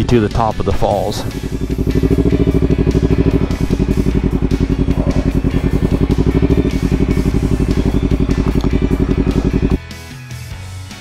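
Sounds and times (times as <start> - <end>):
motorcycle engine running steadily: 0.7 - 9.8.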